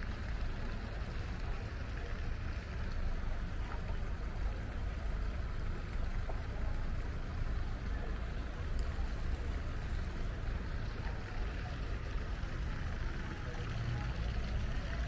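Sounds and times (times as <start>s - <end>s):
low uneven rumble: 0.0s - 15.0s
outdoor background noise: 0.0s - 15.0s.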